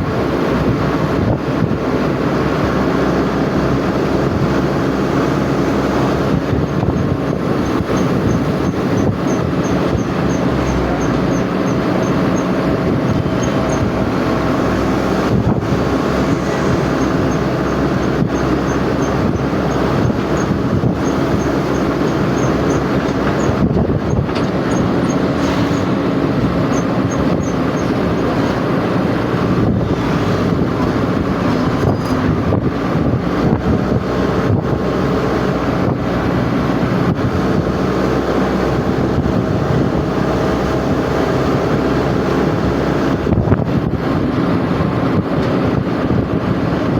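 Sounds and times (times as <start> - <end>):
vehicle running rumble: 0.0 - 46.9.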